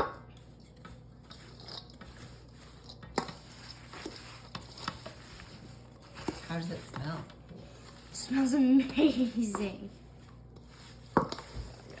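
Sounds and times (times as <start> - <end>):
spoon scraping in mixing bowl: 0.3 - 12.0.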